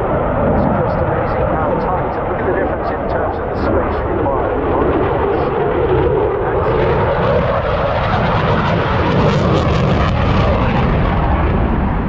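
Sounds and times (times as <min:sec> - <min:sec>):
jet engine roar with crackle: 0:00.0 - 0:12.0.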